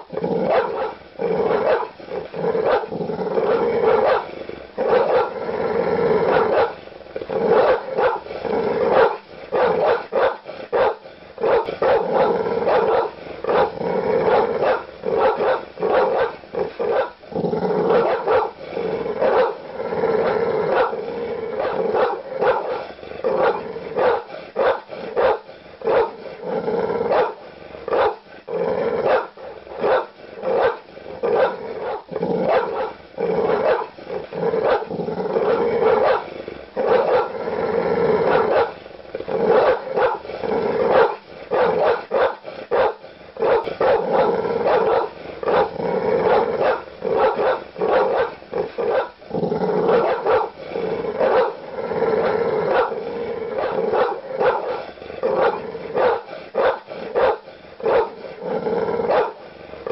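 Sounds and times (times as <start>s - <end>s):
large dog barking aggressively: 0.0s - 59.9s.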